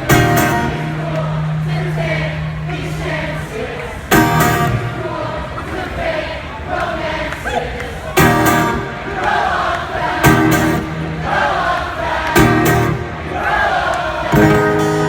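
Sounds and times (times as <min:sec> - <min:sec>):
strummed guitar chords: 0:00.0 - 0:07.0, 0:08.2 - 0:15.0
crowd singing along: 0:00.0 - 0:15.0.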